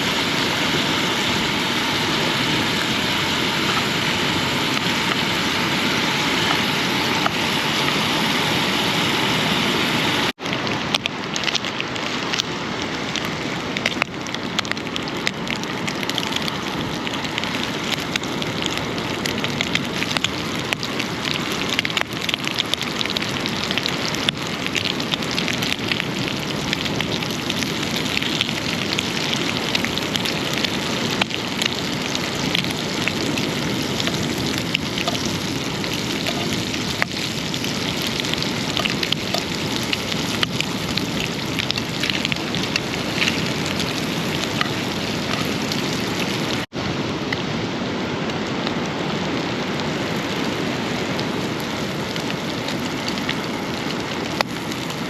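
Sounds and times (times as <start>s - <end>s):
bacon sizzling: 0.0s - 46.7s, 49.4s - 55.0s.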